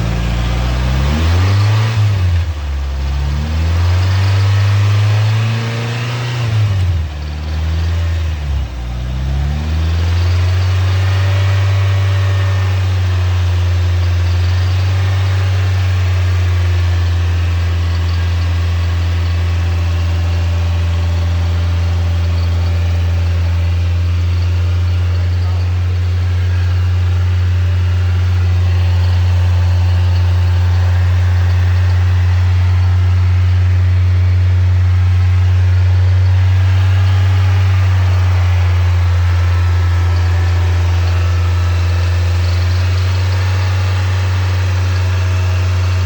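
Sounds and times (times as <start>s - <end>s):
car engine revving and idling: 0.0s - 46.0s.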